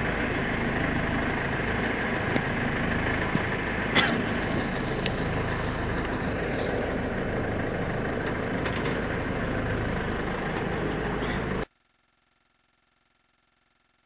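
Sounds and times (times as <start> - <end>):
boat engine running: 0.0 - 11.7
wind: 0.0 - 11.7.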